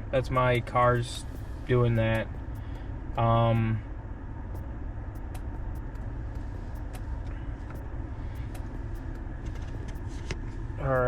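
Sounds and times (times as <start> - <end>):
car engine idling: 0.0 - 11.0
faint steady hum: 0.0 - 11.0.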